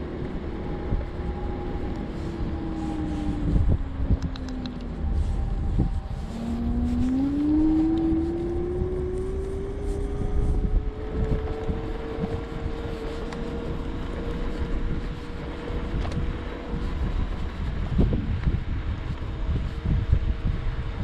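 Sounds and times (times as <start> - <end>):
electric scooter motor whining: 0.0 - 21.0
wind and tyres on road: 0.0 - 21.0.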